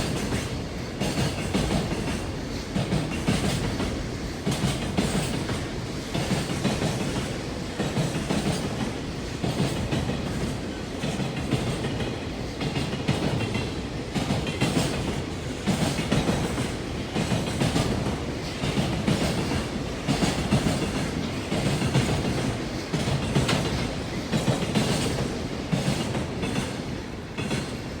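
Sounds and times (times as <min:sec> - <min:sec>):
wheels clacking over rail joints: 0:00.0 - 0:27.9
freight train rolling past: 0:00.0 - 0:28.0.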